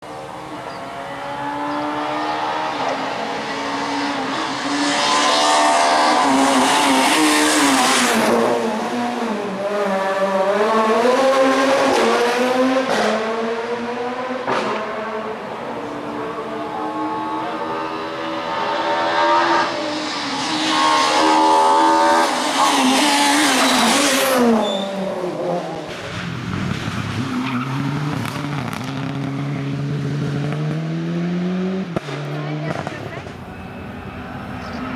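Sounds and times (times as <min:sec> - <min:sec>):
rally car engines revving: 0:00.0 - 0:34.9
rush of engine and tyre noise: 0:00.0 - 0:34.9.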